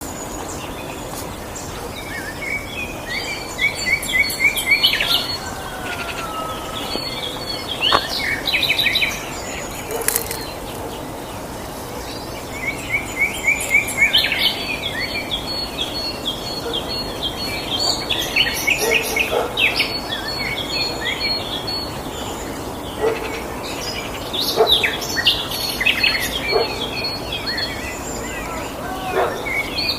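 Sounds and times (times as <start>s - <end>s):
songbirds chirping and trilling: 0.0s - 29.9s
steady background hiss: 0.0s - 29.9s.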